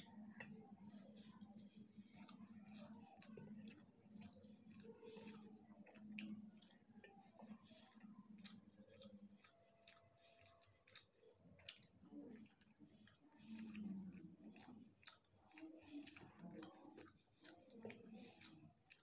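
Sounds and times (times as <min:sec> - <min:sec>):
person chewing food: 0:00.0 - 0:19.0
wet mouth clicks and smacks: 0:02.1 - 0:19.0.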